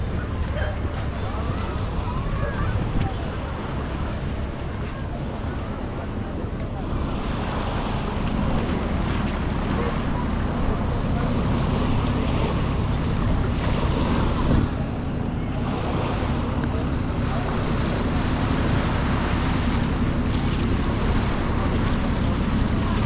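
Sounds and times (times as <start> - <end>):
wind buffeting microphone: 0.0 - 23.0
small waves washing on sand: 0.3 - 23.0.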